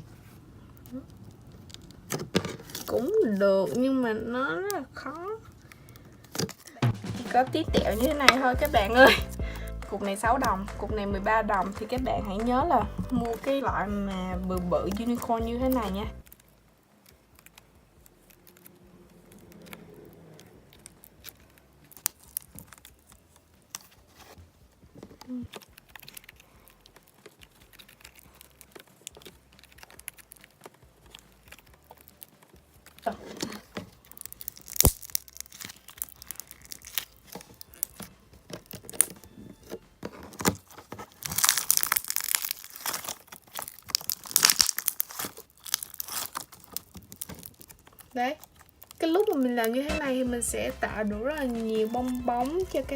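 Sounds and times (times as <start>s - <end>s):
hands kneading putty: 0.0s - 52.9s
sticky clicks and pops: 5.4s - 24.0s, 25.0s - 52.9s.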